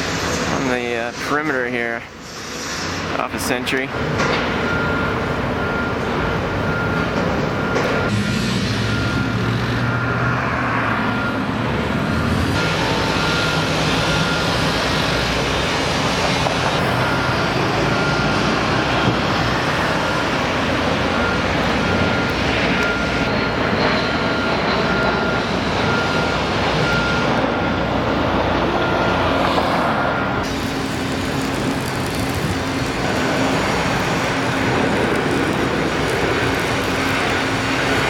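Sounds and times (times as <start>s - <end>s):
reversing alarm beeping: 0.0s - 38.0s
traffic and machinery noise: 0.0s - 38.0s.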